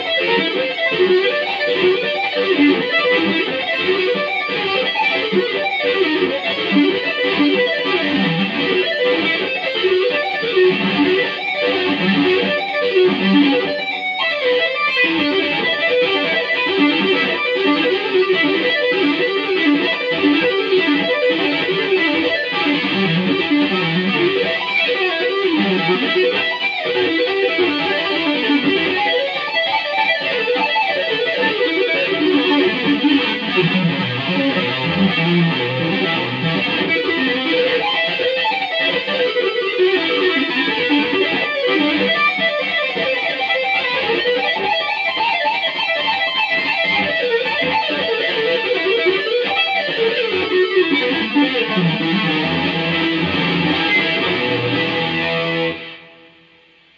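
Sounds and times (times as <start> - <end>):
electric guitar tapping runs: 0.0 - 56.5.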